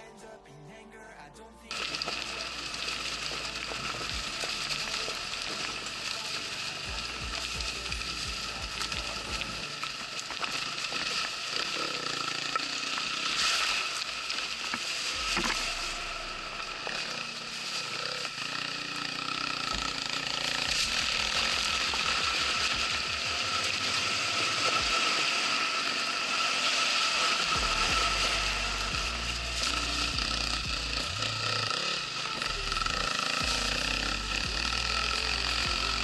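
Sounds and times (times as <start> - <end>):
electric motor whine: 1.7 - 36.0.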